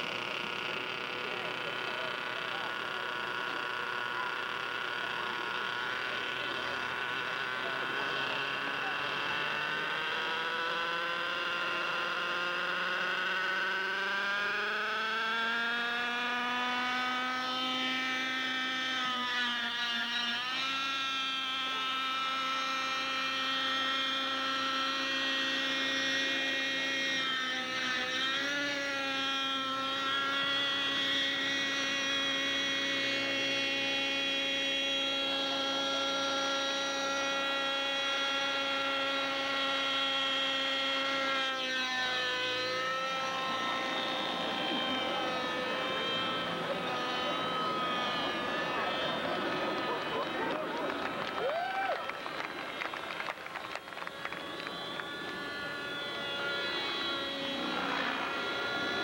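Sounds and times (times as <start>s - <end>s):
model airplane engine: 0.0s - 59.0s.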